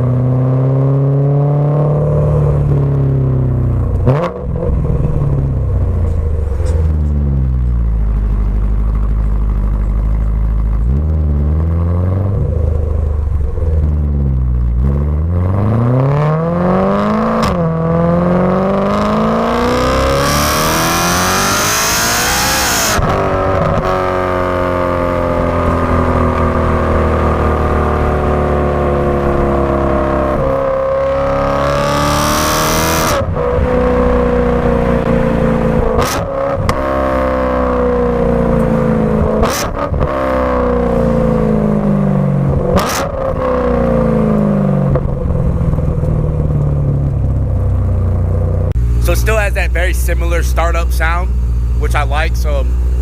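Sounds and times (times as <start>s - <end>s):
car engine revving: 0.0s - 53.0s
supercharger whine: 0.0s - 53.0s.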